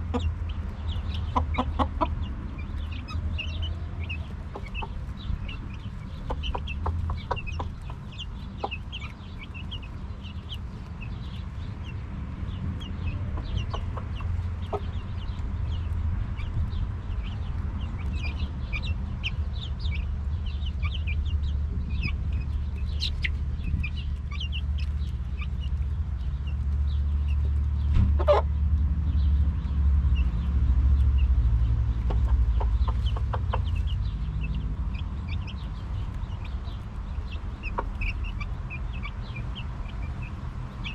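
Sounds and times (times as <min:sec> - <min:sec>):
chicks peeping: 0:00.0 - 0:40.9
steady low rumble: 0:00.0 - 0:40.9.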